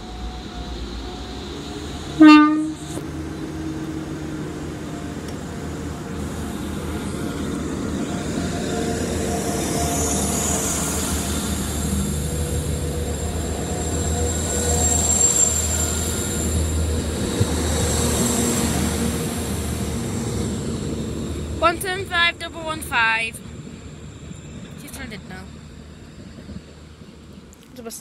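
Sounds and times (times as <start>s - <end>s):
diesel engine drone: 0.0s - 28.0s
train wheels rumbling on rails: 0.0s - 28.0s.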